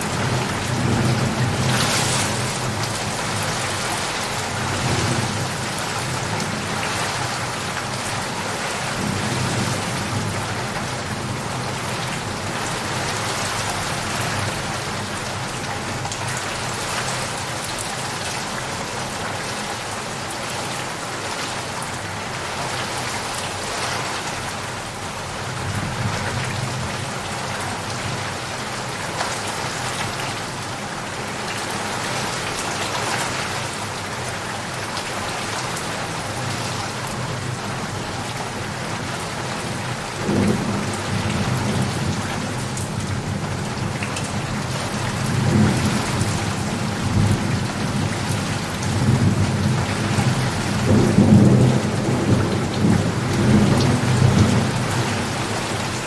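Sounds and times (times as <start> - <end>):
dense rainfall: 0.0 - 56.0.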